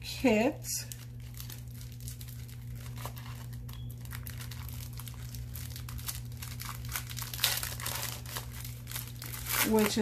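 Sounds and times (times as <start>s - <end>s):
steady low hum: 0.0s - 10.0s
packaging crinkling and rustling: 0.8s - 10.0s.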